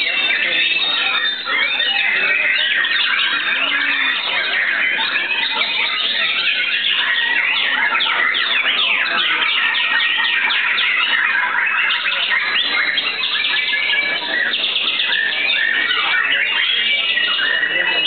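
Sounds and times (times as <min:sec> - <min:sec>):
songbird whistling and chattering: 0:00.0 - 0:18.0.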